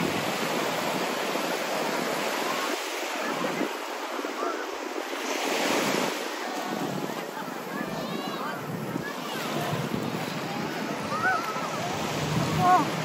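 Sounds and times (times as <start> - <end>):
small waves washing onto sand: 0.0 - 13.0.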